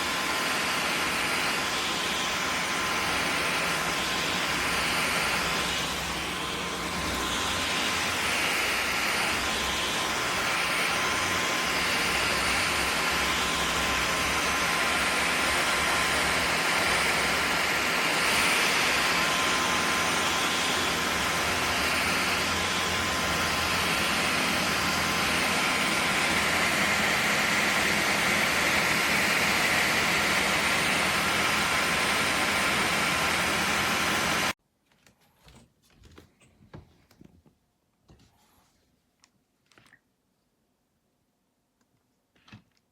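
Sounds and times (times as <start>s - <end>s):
vacuum cleaner motor whooshing: 0.0s - 34.6s.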